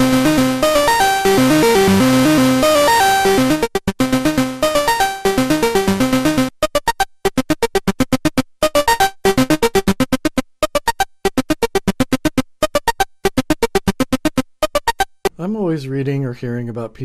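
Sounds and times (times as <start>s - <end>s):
staccato synthesizer arpeggio: 0.0s - 15.4s.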